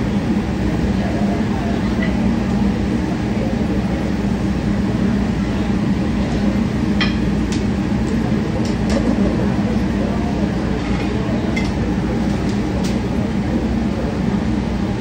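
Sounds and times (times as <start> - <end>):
flaming grill rushing: 0.0 - 15.0.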